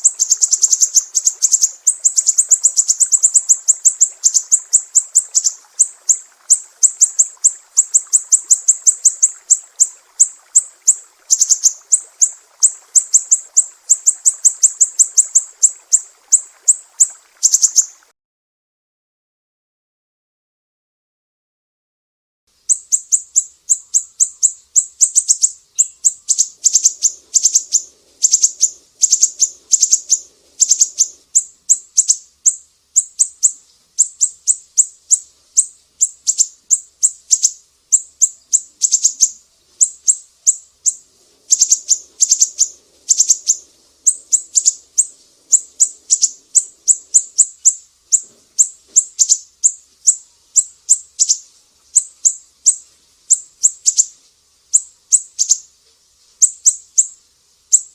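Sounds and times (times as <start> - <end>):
songbird chirping: 0.0 - 18.1, 22.5 - 57.9.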